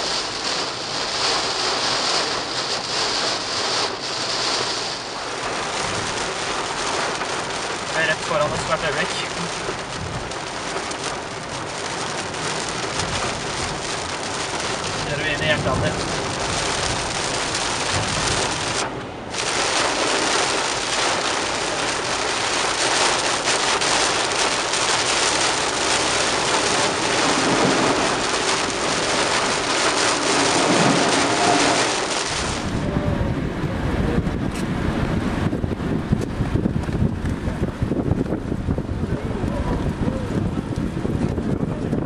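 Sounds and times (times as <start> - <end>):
heavy rain on a car roof: 0.0 - 42.0
wind rumble on microphone: 0.0 - 42.0.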